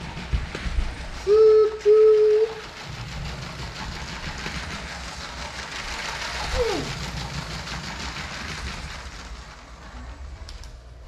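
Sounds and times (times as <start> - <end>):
toy train motor rumbling: 0.0 - 11.0.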